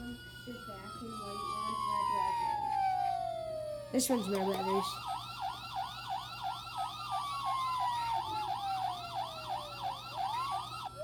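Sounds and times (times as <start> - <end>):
toy police car siren: 0.0 - 11.0.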